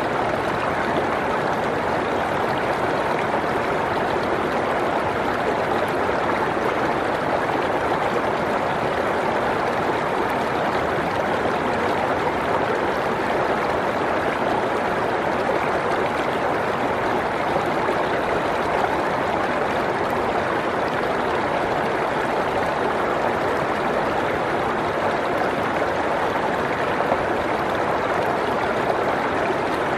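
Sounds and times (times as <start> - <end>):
stream rushing over rocks: 0.0 - 29.9.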